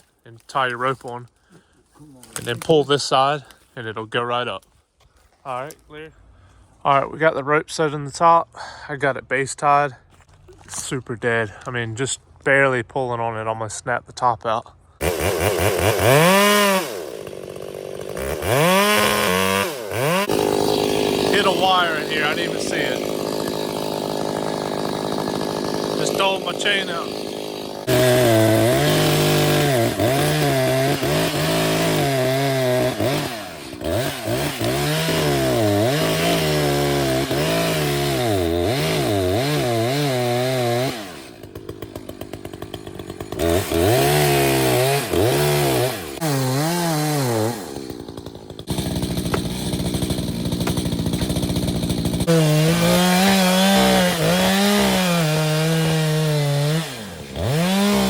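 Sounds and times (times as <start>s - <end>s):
chainsaw cutting: 0.0s - 3.7s, 15.0s - 58.0s.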